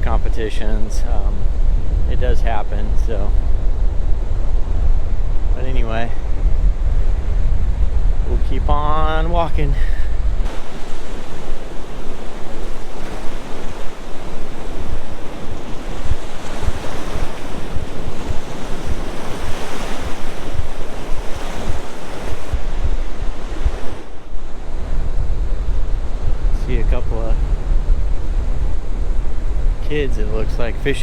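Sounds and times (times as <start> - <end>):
surf washing onto beach: 0.0 - 31.0
wind buffeting microphone: 0.0 - 31.0.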